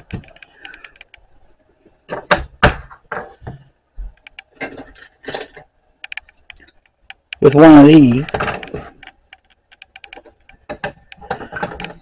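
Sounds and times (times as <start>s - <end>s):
plastic brackets knocking and clicking: 0.0s - 1.2s, 2.1s - 7.4s, 8.3s - 12.0s.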